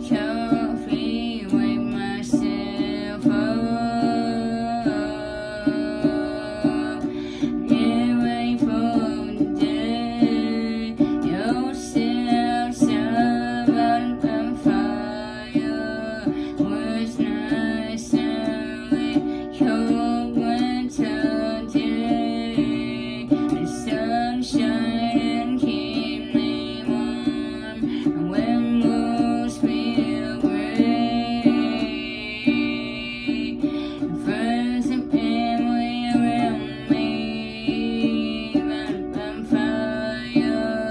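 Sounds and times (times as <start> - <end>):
person singing: 0.0 - 40.9
plucked string instrument: 0.0 - 40.9.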